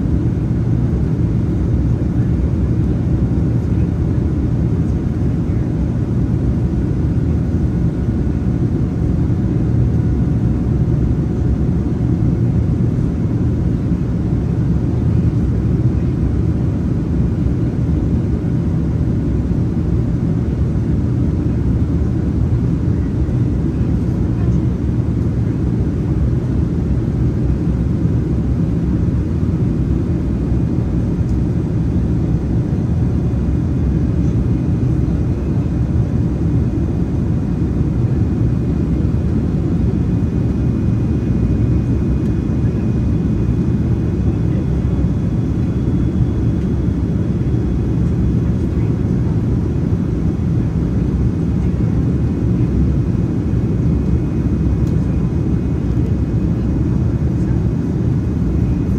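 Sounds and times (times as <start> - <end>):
low rumble of engines and airflow: 0.0 - 58.9.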